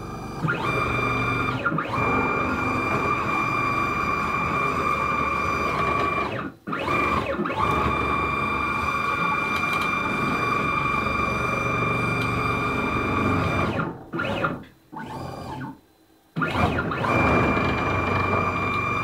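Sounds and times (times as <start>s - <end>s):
stepper motors whining: 0.0s - 15.7s, 16.4s - 19.0s.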